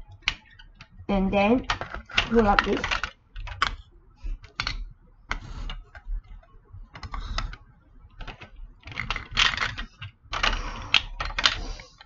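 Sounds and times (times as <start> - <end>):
plastic blocks clicking: 0.1 - 12.0.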